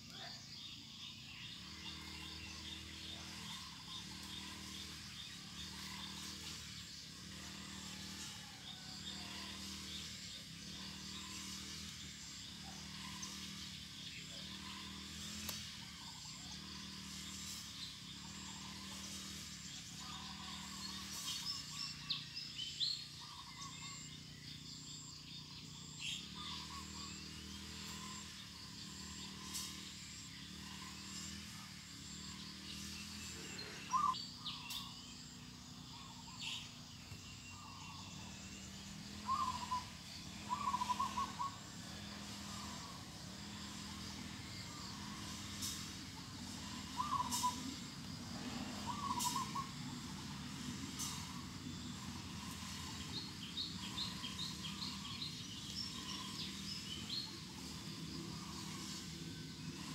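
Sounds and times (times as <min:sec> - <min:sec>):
birds calling and chirping: 0:00.0 - 0:59.9.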